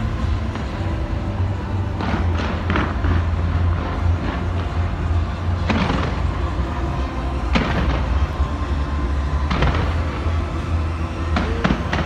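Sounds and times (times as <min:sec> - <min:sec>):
fireworks rumbling: 0:00.0 - 0:12.0.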